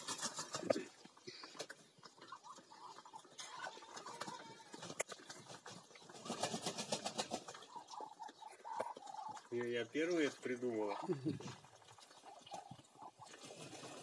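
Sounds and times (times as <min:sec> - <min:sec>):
ducks splashing in water: 0:00.0 - 0:14.0.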